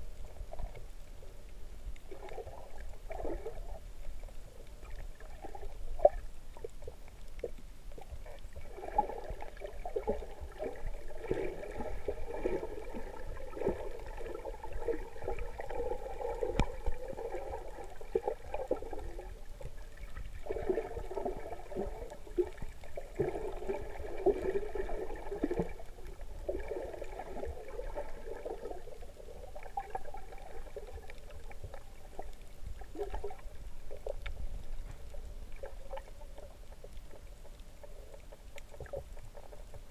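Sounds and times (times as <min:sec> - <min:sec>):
faint steady hum: 0:00.0 - 0:39.9
underwater gurgling and churning: 0:00.0 - 0:39.9.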